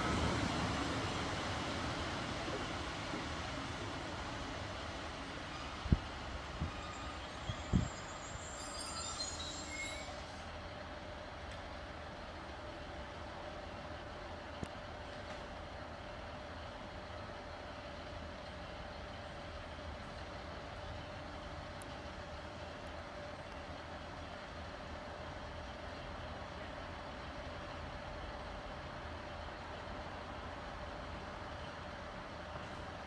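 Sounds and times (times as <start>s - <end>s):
diesel train engine idling: 0.0s - 33.0s.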